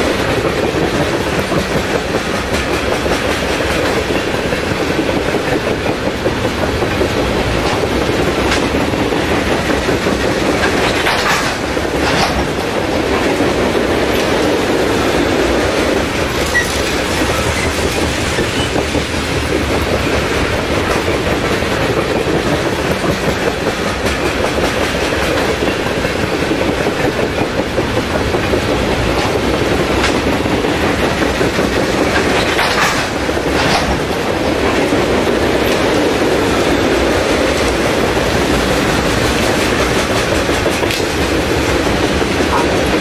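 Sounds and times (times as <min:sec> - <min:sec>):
freight train rolling on rails: 0:00.0 - 0:43.0.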